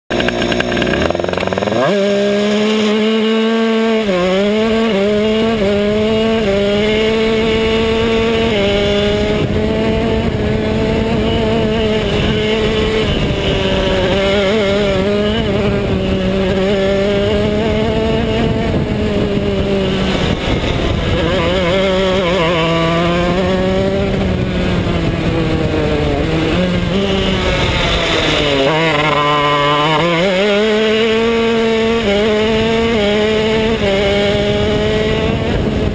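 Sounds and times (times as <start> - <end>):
kart engine at high revs: 0.0 - 35.9.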